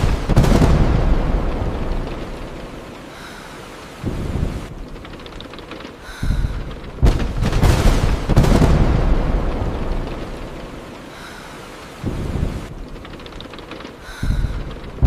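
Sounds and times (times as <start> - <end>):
thunder crack and rumble: 0.0 - 3.4, 4.0 - 5.5, 6.1 - 11.3, 12.0 - 15.0
rain on car glass: 0.0 - 15.0.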